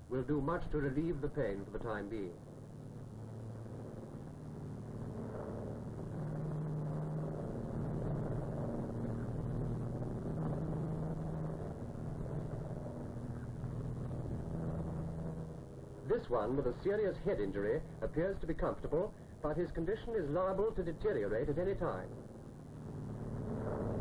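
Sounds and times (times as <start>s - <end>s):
propeller engines droning: 0.0s - 24.0s.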